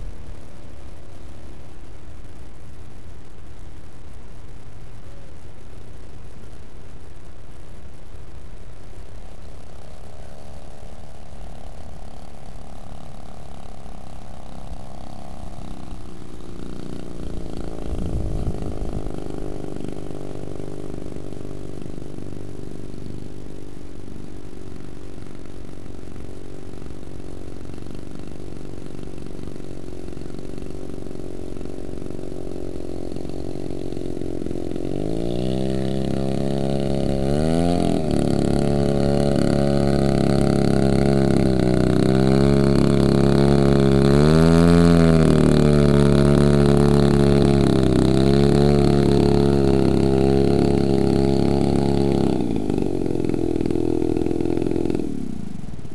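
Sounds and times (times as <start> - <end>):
model plane engine and propeller: 0.0 - 55.9.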